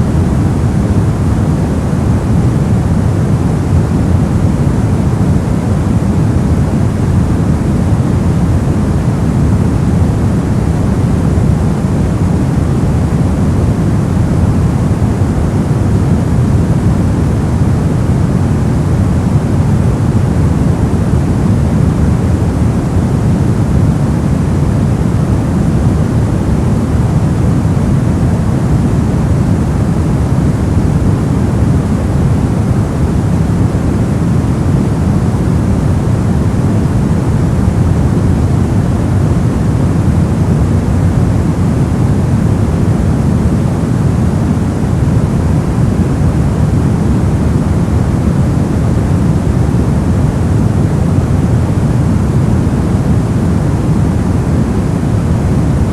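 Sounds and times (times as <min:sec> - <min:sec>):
deep white noise hiss: 0:00.0 - 0:55.9.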